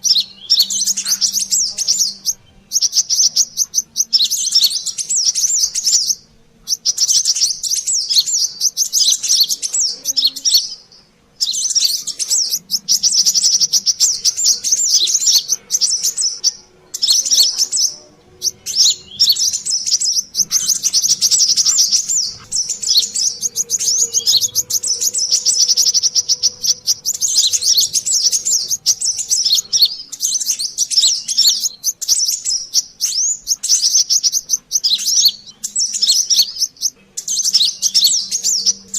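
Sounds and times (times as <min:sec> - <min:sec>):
bird chirping twitters: 0:00.0 - 0:38.9.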